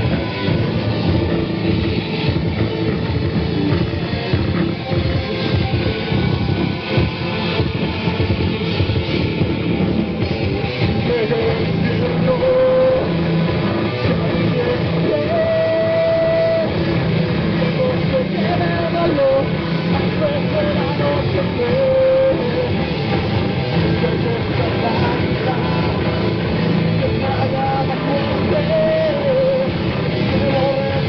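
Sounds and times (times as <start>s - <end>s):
drums: 0.0s - 31.0s
heavy rhythm guitar: 0.0s - 31.0s
lead guitar bending notes: 0.0s - 31.0s.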